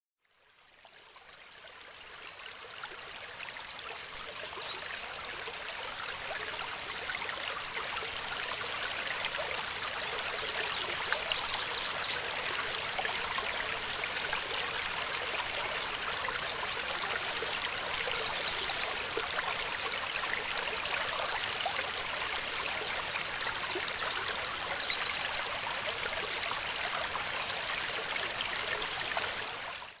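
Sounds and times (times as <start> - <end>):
running water rushing: 2.1 - 30.0.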